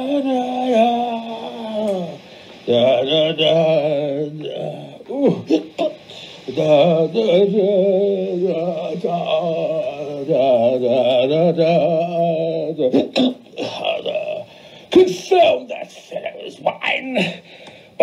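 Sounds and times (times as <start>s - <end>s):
man singing with vibrato: 0.0s - 18.0s.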